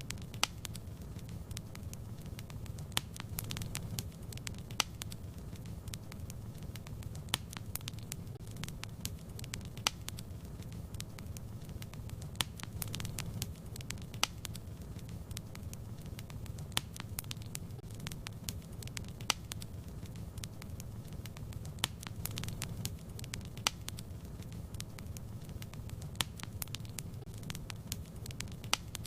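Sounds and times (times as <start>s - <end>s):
wood fire burning: 0.0s - 29.0s.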